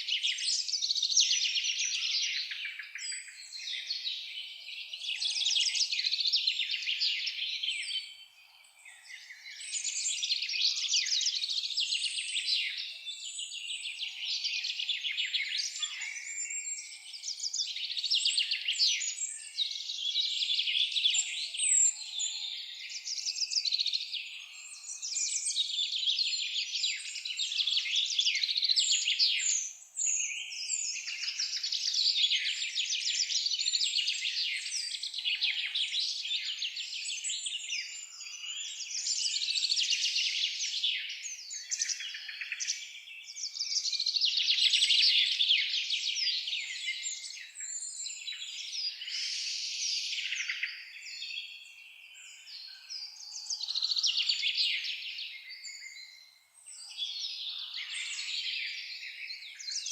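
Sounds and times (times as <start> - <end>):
songbirds singing trills and chirps: 0.0 - 59.9.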